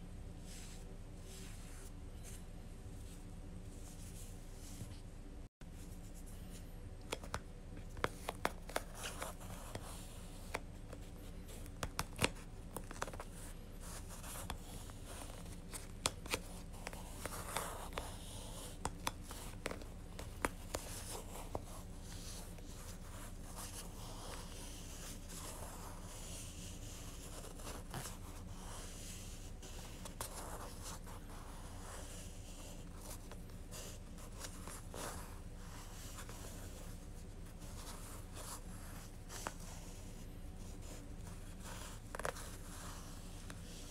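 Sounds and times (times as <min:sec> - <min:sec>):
yarn rubbing over a ball: 0:07.9 - 0:43.9.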